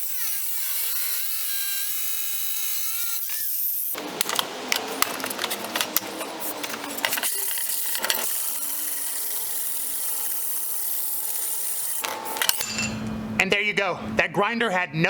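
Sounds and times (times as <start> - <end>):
angle grinder cutting porcelain: 0.0 - 12.9.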